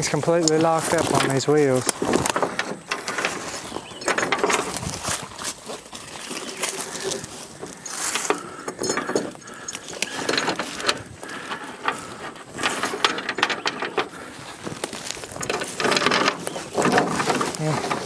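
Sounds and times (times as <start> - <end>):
metal hardware clinking and rattling: 0.0 - 18.0.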